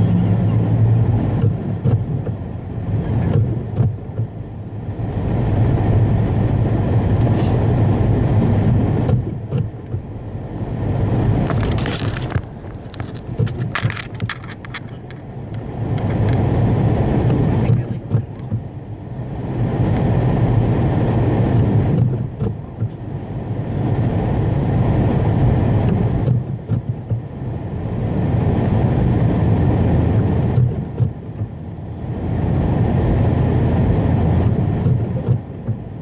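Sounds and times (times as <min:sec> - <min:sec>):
car driving through snow: 0:00.0 - 0:36.0.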